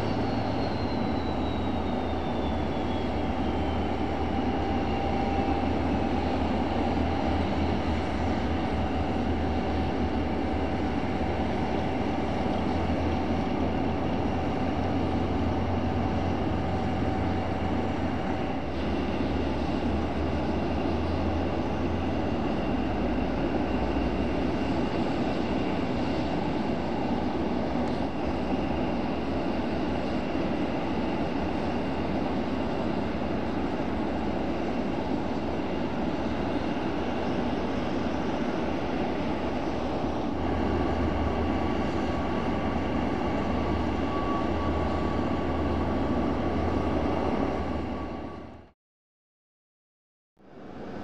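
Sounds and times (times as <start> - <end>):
turboprop engines running: 0.0 - 48.7, 50.4 - 51.0.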